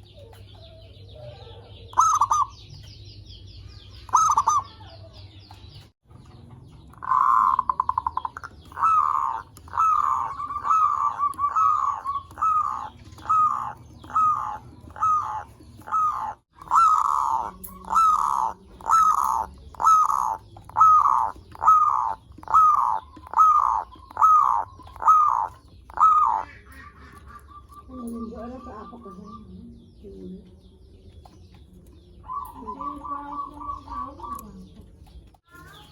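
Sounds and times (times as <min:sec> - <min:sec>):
dove cooing: 0:00.0 - 0:02.8, 0:04.0 - 0:05.2, 0:06.9 - 0:30.2, 0:31.6 - 0:35.0
dove trilling: 0:00.0 - 0:35.9.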